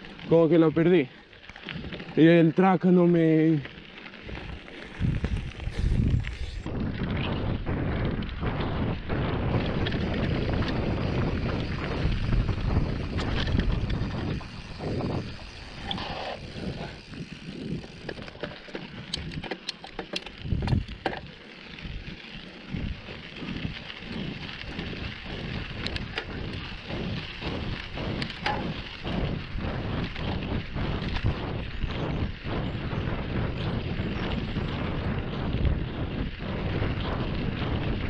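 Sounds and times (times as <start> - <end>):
bike clicking and rattling: 0.0 - 38.0
bike tyre noise on dirt: 0.0 - 38.0
wind buffeting microphone: 0.0 - 38.0.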